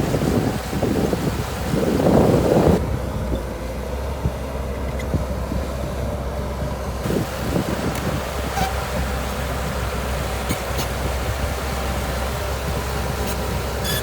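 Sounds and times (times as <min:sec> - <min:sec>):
bulldozer diesel engine running: 0:00.0 - 0:14.0
wind buffeting microphone: 0:00.0 - 0:14.0.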